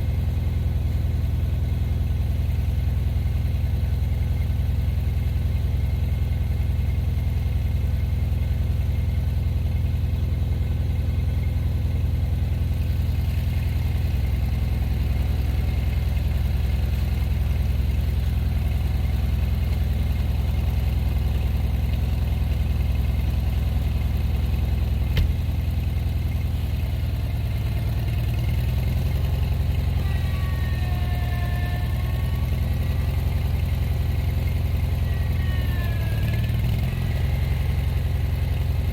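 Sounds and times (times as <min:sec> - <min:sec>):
engine running at low speed: 0:00.0 - 0:38.9.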